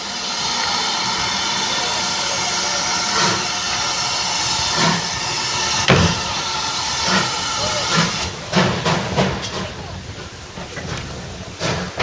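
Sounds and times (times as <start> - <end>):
steam hissing: 0.0 - 12.0
steam locomotive exhaust beats: 0.0 - 12.0.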